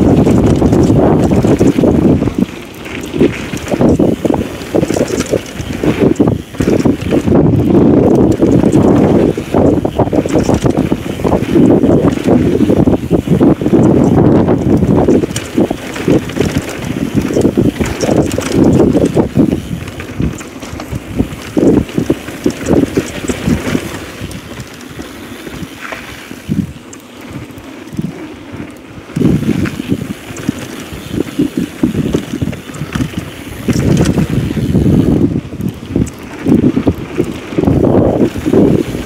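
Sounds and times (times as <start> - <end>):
bike clicks and rattles: 0.0 - 39.0
wind buffeting microphone: 0.0 - 39.0.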